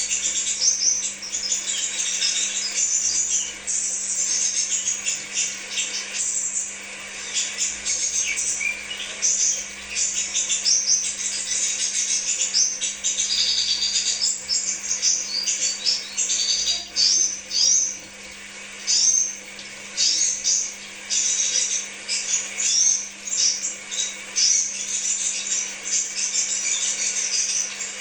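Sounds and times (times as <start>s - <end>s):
bird chirps and trills: 0.0s - 28.0s.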